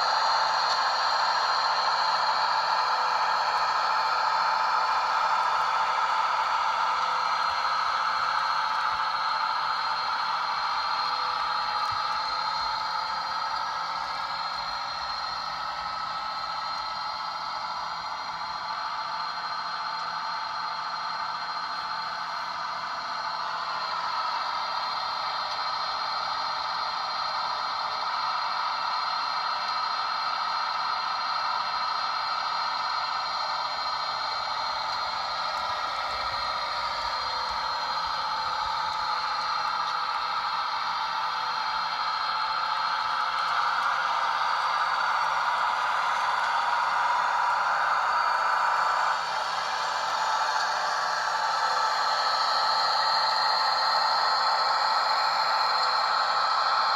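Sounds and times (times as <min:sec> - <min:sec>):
diesel railcar engine through small speaker: 0:00.0 - 0:56.9.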